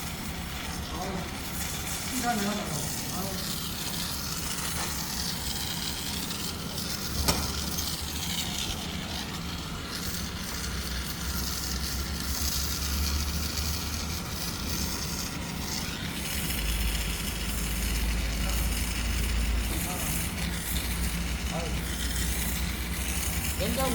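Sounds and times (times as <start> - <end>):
arc welding crackling sizzle: 0.0 - 23.9.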